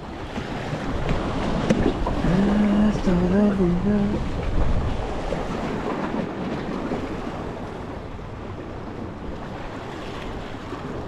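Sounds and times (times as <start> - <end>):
surf washing against rocks: 0.0 - 11.0
wind noise on microphone: 0.0 - 11.0.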